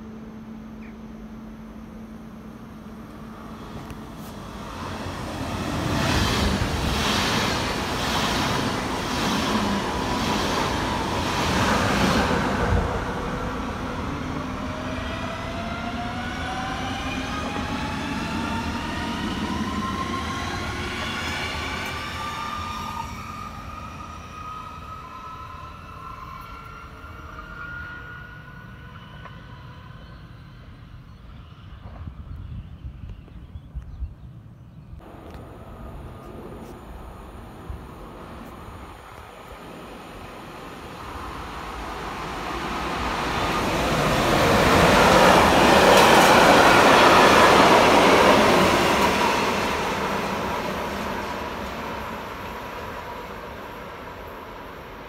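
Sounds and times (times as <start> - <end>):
low train rumble: 0.0 - 55.0.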